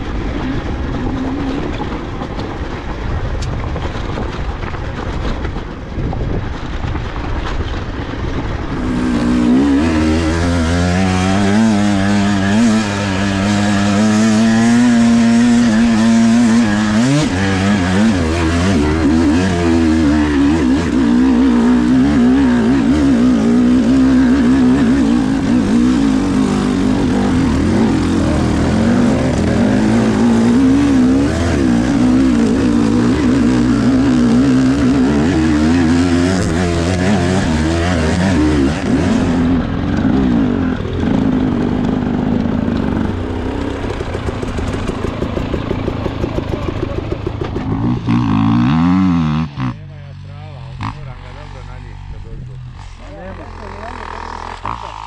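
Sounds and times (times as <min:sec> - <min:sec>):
two-stroke motorcycle engine revving: 0:07.3 - 0:55.0.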